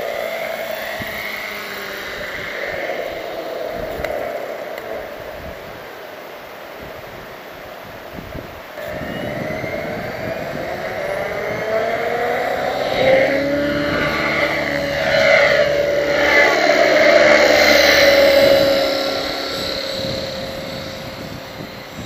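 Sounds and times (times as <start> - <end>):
rc helicopter motor and rotor whine: 0.0 - 6.4, 8.7 - 22.0.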